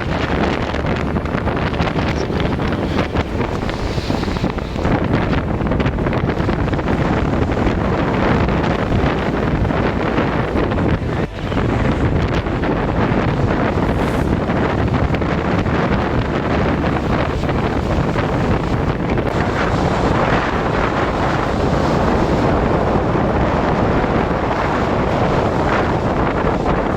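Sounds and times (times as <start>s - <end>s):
strong wind buffeting microphone: 0.0s - 26.9s.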